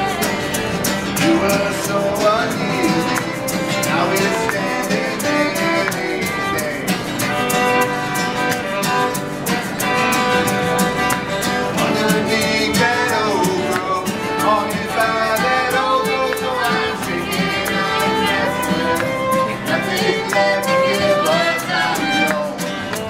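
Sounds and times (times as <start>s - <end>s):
fiddle melody: 0.0s - 23.0s
strummed guitar: 0.0s - 23.0s.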